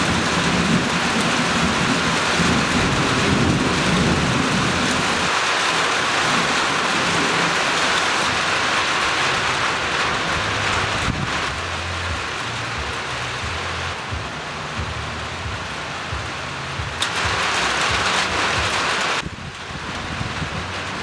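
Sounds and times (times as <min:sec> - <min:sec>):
heavy rain pouring: 0:00.0 - 0:21.0
low thunder rumble: 0:00.0 - 0:21.0.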